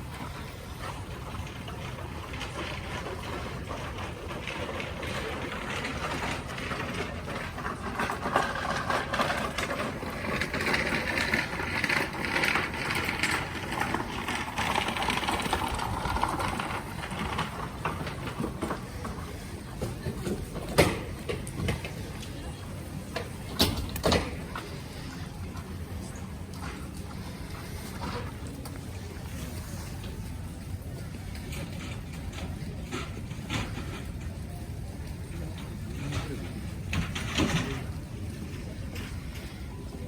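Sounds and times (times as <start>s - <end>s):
traffic: 0.0s - 40.0s.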